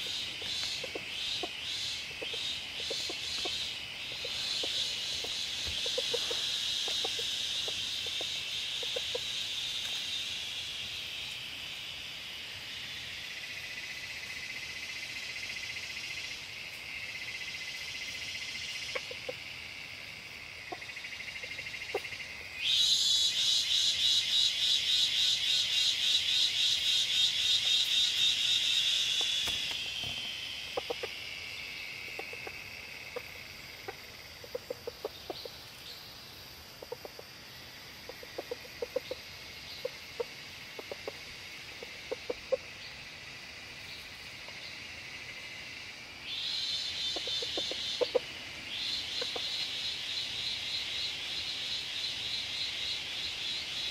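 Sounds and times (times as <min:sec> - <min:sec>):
rapidly pulsing insect buzz: 0:00.0 - 0:53.9
steady high insect buzzing: 0:00.0 - 0:53.9.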